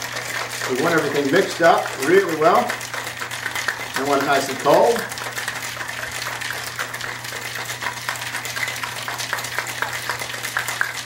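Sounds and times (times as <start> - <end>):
ice rattling in cocktail shaker: 0.0 - 11.0.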